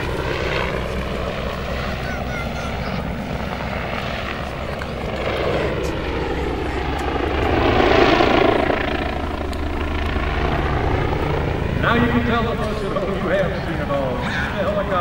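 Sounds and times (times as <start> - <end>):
helicopter engine noise: 0.0 - 15.0
helicopter rotor beating: 0.0 - 15.0.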